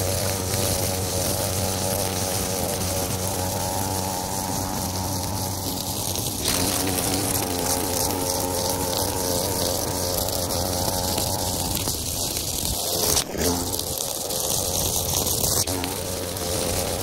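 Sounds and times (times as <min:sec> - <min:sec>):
string trimmer cutting grass: 0:00.0 - 0:17.0.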